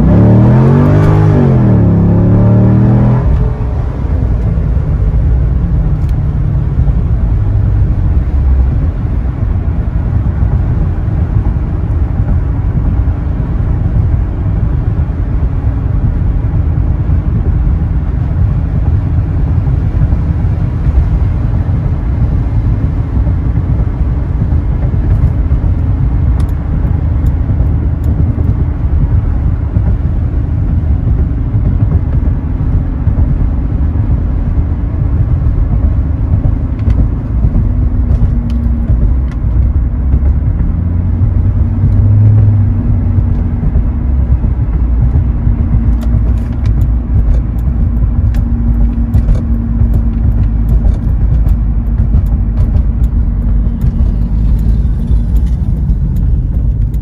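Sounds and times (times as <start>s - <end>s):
car engine droning: 0.0s - 57.0s
tyre and road noise: 0.0s - 57.0s.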